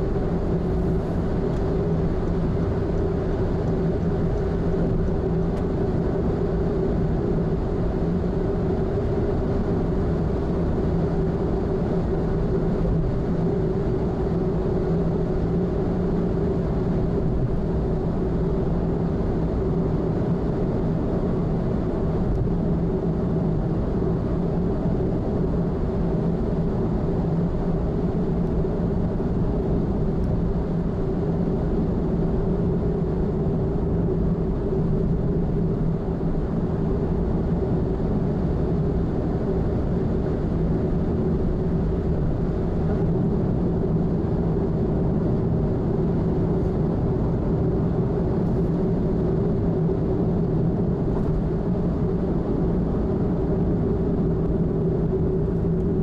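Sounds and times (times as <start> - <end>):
car engine hum: 0.0 - 56.0.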